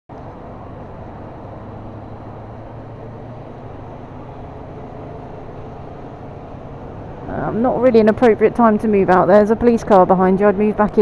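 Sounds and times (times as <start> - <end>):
motorcycle engine hum: 0.1 - 11.0
wind and road noise: 0.1 - 11.0.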